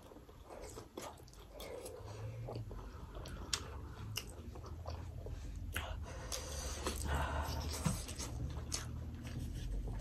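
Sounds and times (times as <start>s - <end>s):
biting and chewing: 0.0s - 10.0s.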